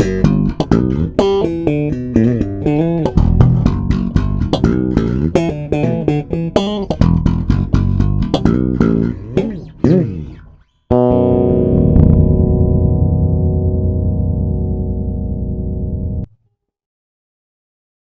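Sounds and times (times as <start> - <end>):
electric bass plucked notes: 0.0 - 16.3.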